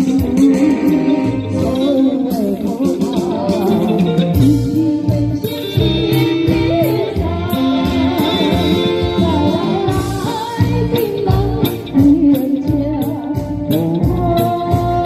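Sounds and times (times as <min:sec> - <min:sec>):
guitar: 0:00.0 - 0:15.0
person singing: 0:00.0 - 0:15.0.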